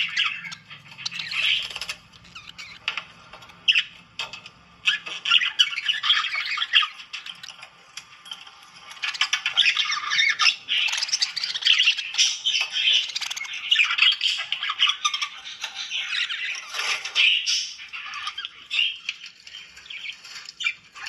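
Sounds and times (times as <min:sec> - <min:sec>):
budgerigars chattering: 0:00.0 - 0:04.0, 0:04.8 - 0:07.7, 0:08.9 - 0:21.0.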